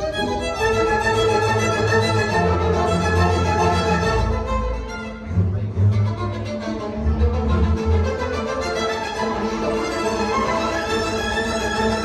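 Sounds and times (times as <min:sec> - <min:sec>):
violin and strings music: 0:00.0 - 0:12.0.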